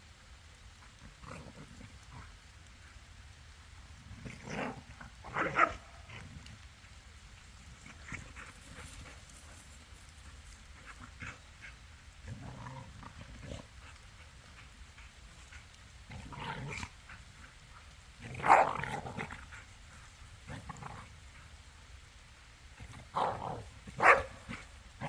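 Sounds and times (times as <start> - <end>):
dogs making noise in rough play: 0.7 - 25.0.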